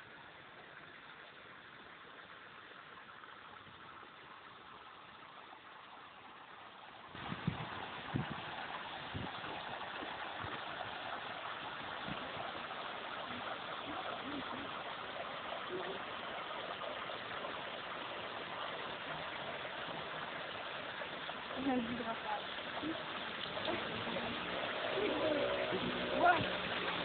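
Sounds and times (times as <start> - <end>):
water flowing into stone basin: 0.0 - 27.0.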